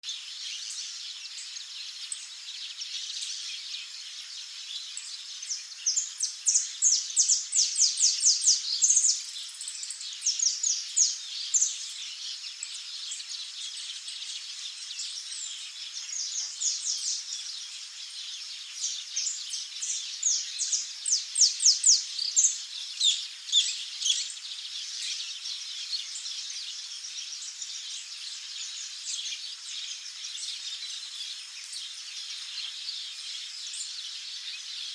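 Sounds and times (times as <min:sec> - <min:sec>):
small songbirds chirping: 0:00.0 - 0:34.9
steady high hiss: 0:00.0 - 0:34.9.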